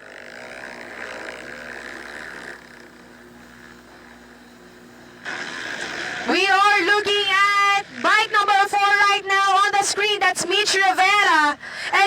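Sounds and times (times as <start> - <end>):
distant dirt bike engines: 0.0 - 12.0.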